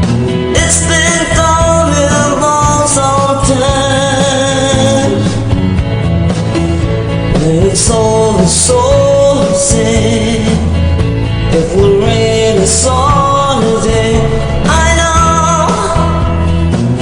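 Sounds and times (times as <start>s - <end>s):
bass: 0.0s - 17.0s
guitar: 0.0s - 17.0s
steady drum beat: 0.0s - 17.0s
person singing: 0.4s - 5.6s, 7.3s - 17.0s.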